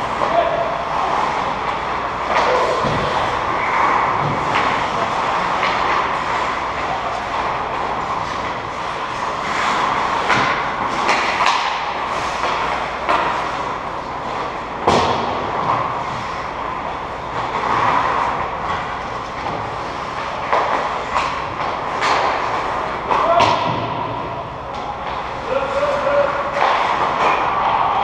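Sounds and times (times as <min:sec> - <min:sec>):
skate blades on ice: 0:00.0 - 0:24.1, 0:24.8 - 0:28.0
hockey sticks and puck clacking: 0:00.0 - 0:28.0.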